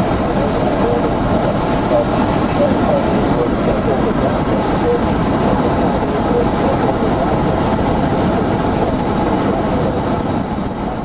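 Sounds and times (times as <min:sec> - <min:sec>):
road noise and wind rumble: 0:00.0 - 0:11.0.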